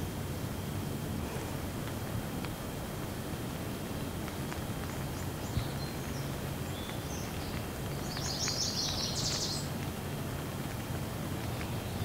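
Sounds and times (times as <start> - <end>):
stream running over rock: 0.0 - 12.0
waterfall: 0.0 - 12.0.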